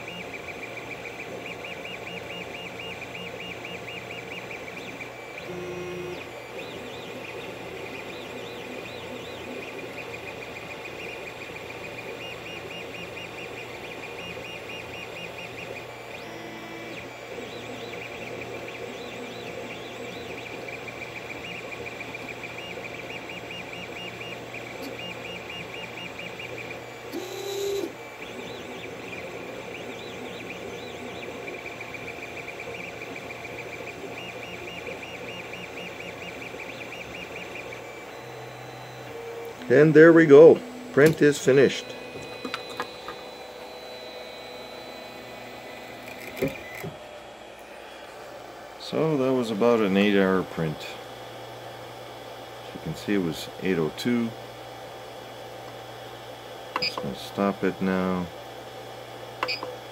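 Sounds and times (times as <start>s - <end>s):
printer fans humming: 0.0s - 59.9s
stepper motors whining and chirping: 0.0s - 59.9s.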